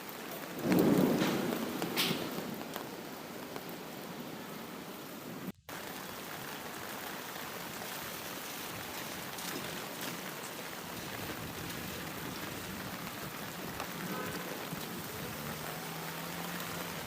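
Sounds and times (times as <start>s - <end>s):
thunder rumble: 0.0s - 7.3s, 8.7s - 17.0s
steady rain hiss: 0.0s - 17.0s.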